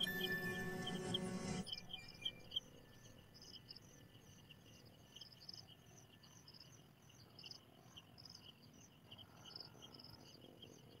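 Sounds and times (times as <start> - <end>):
insect chirping trills: 1.6 - 10.9.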